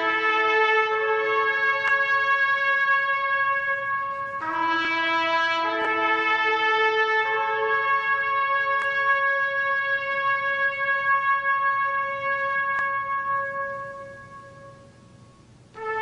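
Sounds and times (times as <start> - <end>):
wind instrument long note: 0.0 - 15.0, 15.8 - 16.0.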